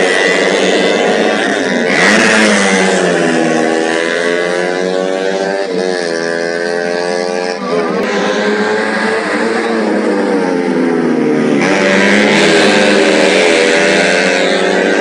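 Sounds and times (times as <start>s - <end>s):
racing motorcycle engine high revs: 0.0s - 15.0s.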